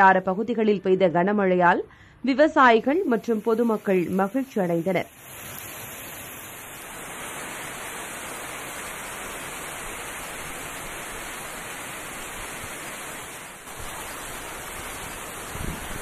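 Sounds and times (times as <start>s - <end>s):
heavy rain: 3.0s - 16.0s.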